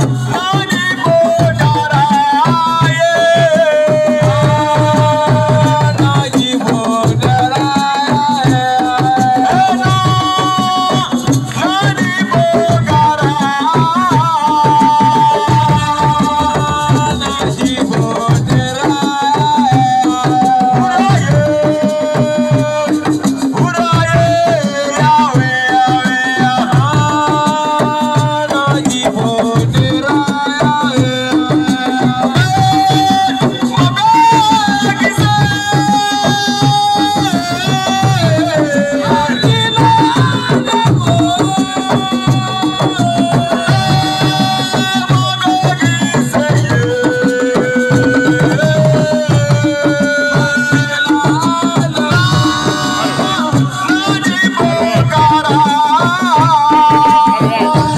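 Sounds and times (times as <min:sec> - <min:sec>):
hand drums beating: 0:00.0 - 0:57.9.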